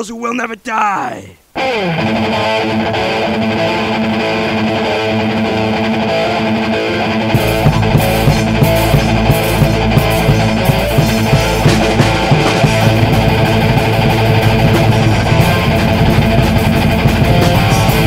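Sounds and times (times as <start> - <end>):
distorted electric guitar riff: 1.5 - 18.0
heavy metal band playing: 1.6 - 18.0.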